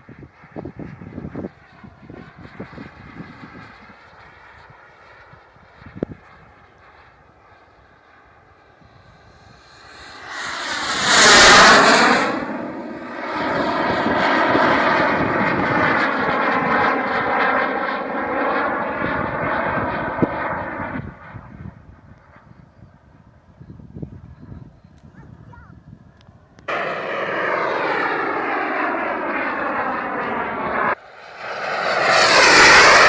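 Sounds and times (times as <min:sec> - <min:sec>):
model jet turbine passing: 0:00.0 - 0:23.4, 0:26.6 - 0:33.0.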